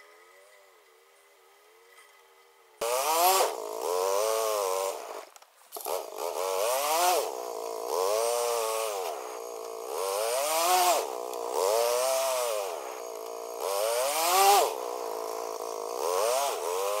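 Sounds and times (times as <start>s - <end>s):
atv engine revving: 2.8s - 17.0s.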